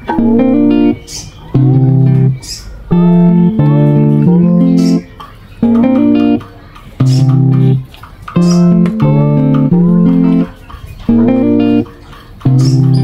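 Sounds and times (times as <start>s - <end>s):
guitar chords: 0.0s - 13.0s.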